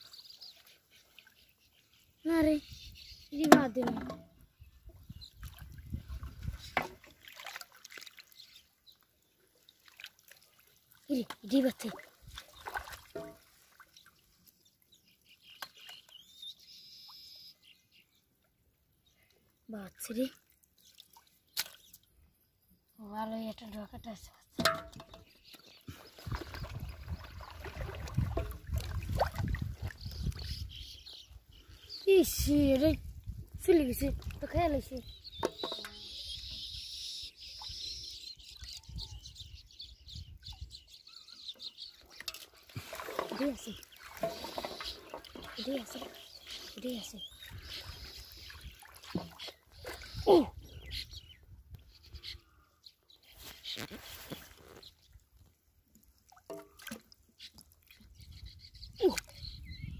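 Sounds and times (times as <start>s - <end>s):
faint birdsong: 0.0s - 7.1s, 8.0s - 9.6s, 10.4s - 28.3s, 29.7s - 55.5s, 57.2s - 59.9s.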